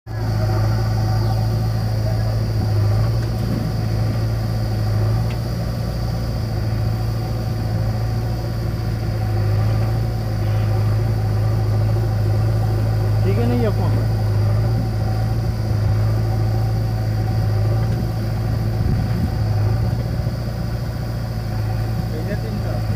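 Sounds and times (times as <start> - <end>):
diesel engines idling: 0.1 - 22.9.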